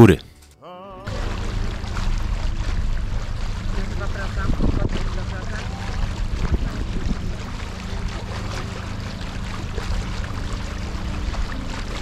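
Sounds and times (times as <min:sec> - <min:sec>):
outboard motor running: 0:00.0 - 0:12.0
water splashing along hull: 0:00.0 - 0:12.0.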